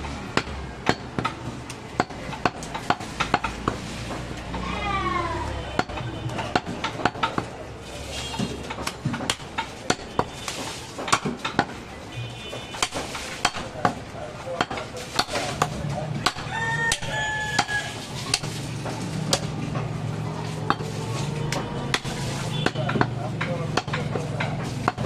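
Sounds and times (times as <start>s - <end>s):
knife chopping meat and bone: 0.2s - 4.4s, 5.7s - 7.6s, 8.4s - 11.8s, 12.5s - 25.0s.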